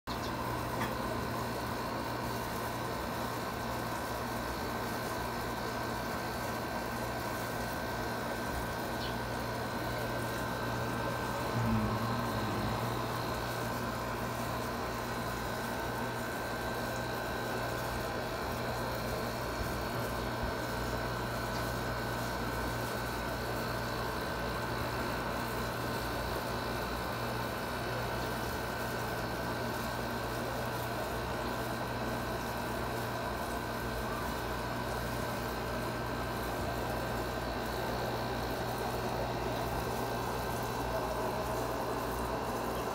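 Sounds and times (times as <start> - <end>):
background hum and hiss: 0.1 - 42.9.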